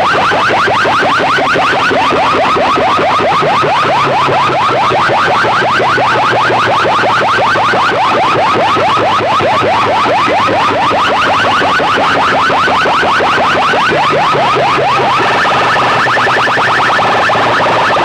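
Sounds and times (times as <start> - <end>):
electronic siren chirps: 0.0 - 18.0.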